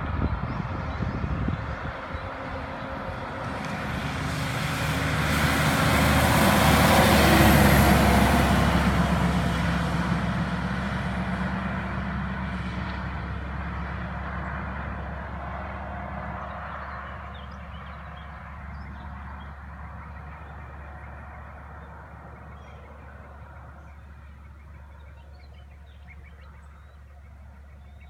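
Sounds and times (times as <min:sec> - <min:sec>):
diesel truck passing: 0:00.0 - 0:27.9.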